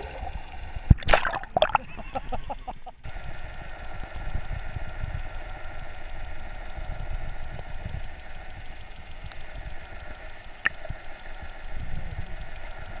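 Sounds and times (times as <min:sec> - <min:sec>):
faint steady hum: 0:00.0 - 0:13.0
underwater rumble of water: 0:00.0 - 0:13.0.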